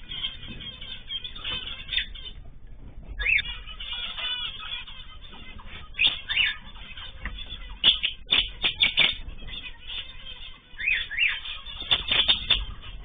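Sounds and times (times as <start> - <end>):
cage birds chirping: 0.0 - 13.0.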